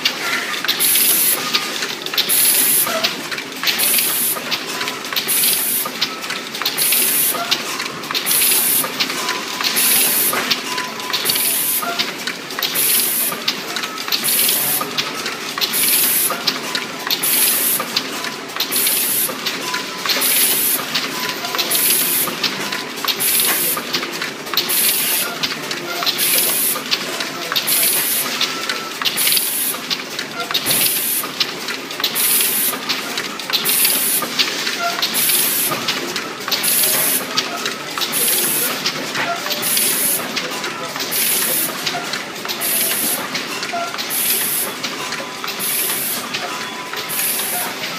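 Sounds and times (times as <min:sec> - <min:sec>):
machine clattering: 0:00.0 - 0:47.9.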